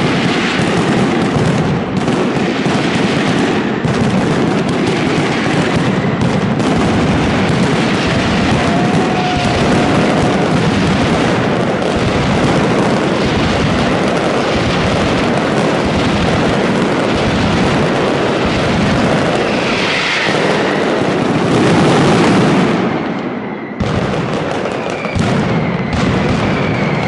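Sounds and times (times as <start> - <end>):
firecrackers exploding in a barrage: 0.0 - 27.0.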